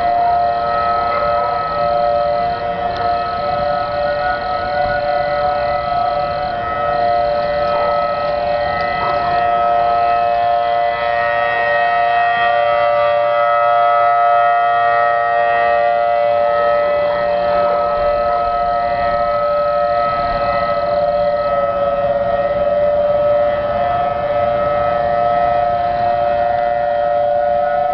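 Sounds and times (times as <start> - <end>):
tornado warning siren: 0.0 - 27.9.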